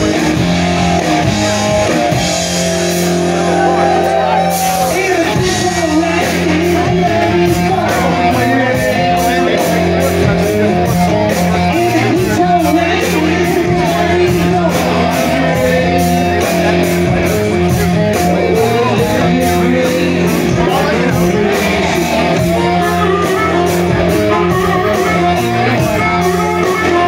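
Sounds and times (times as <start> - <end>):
drums keeping a steady beat: 0.0 - 27.0
electric guitars: 0.0 - 27.0
person singing: 3.5 - 27.0.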